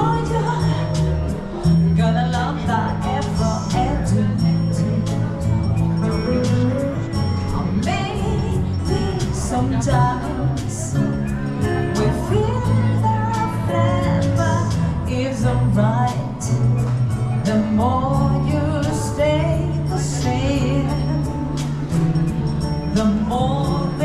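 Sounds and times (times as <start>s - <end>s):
person singing pop song: 0.0s - 24.0s.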